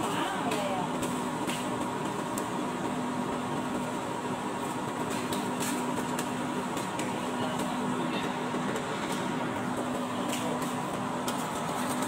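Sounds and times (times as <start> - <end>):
constant wash of noise: 0.0 - 12.0
steady mechanical hum: 0.0 - 12.0.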